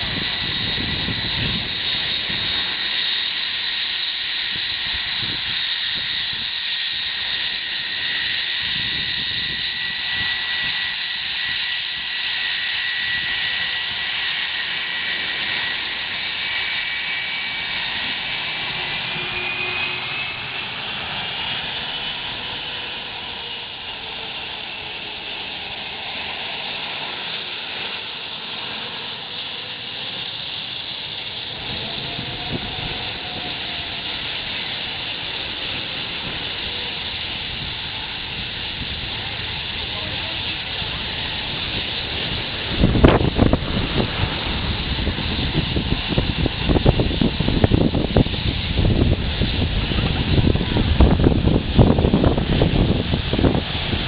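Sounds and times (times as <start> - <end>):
jet engines blasting: 0.0 - 54.0
wind buffeting microphone: 0.0 - 54.0.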